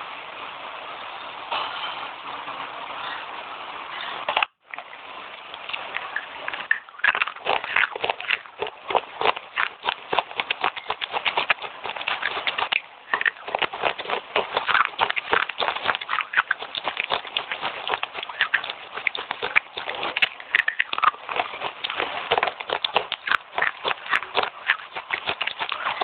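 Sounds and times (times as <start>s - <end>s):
chewing and crunching clay: 4.2s - 26.0s.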